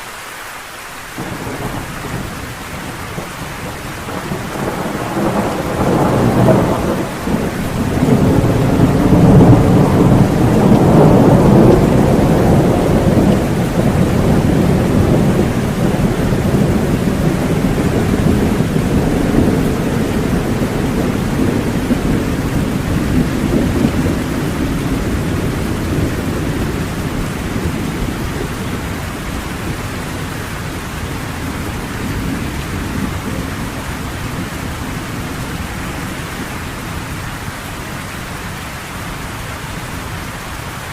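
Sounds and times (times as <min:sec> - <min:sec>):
heavy rain: 0:00.0 - 0:40.9
rolling thunder: 0:01.2 - 0:37.6.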